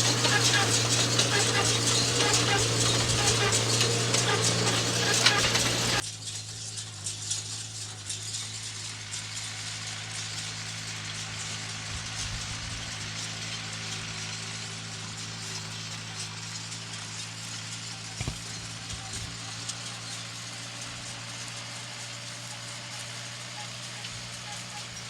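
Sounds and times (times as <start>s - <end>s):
farm machinery engine rattling: 0.0s - 25.0s.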